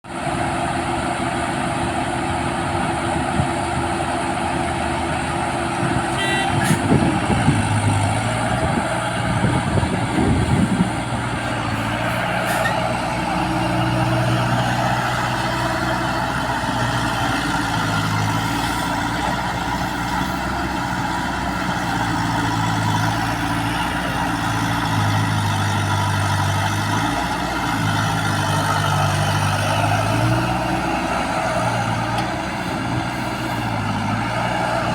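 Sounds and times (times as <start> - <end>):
diesel engine revving under work: 0.1 - 34.9.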